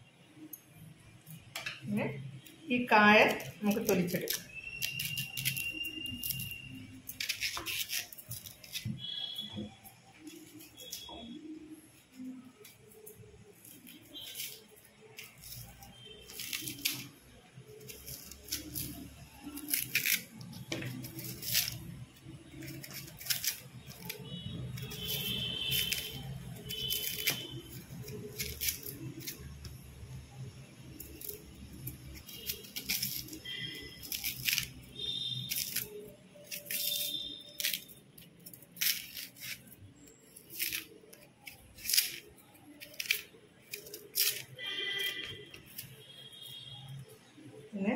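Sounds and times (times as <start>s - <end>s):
knife peeling plantain skin: 2.4s - 47.5s.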